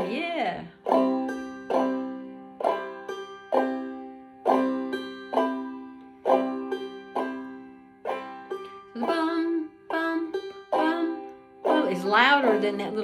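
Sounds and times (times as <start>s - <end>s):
banjo strumming: 0.0s - 13.0s
banjo thumb pluck: 0.0s - 13.0s.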